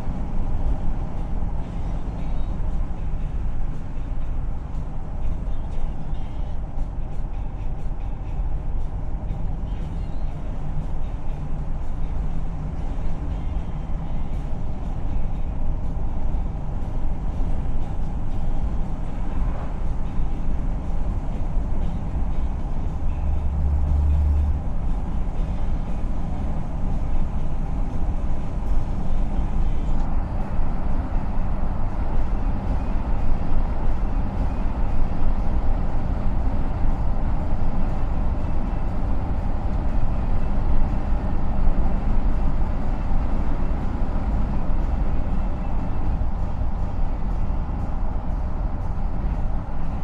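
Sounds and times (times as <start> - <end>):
car tyre and engine noise: 0.0 - 50.0.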